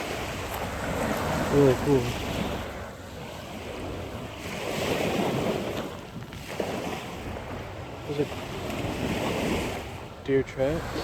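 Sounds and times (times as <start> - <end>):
rushing water: 0.0 - 11.0
wind buffeting microphone: 0.0 - 11.0.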